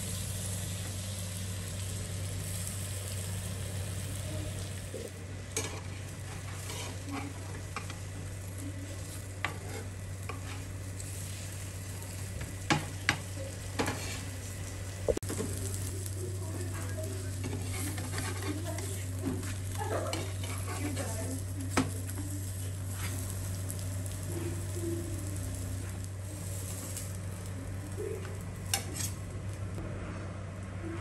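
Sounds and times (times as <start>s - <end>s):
frying sizzle: 0.0s - 29.8s.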